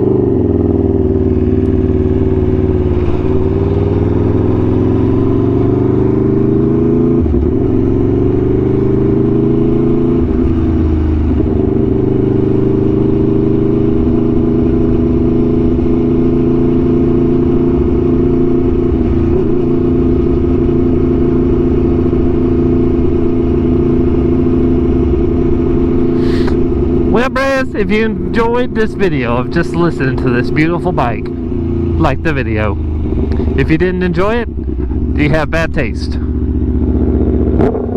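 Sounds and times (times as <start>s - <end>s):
motorcycle engine at steady revs: 0.0s - 37.9s.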